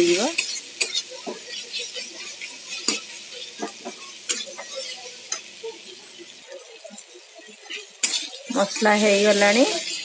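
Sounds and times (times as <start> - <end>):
sauce sizzling in oil: 0.0 - 10.0
spatula scraping and tapping pan: 0.0 - 10.0.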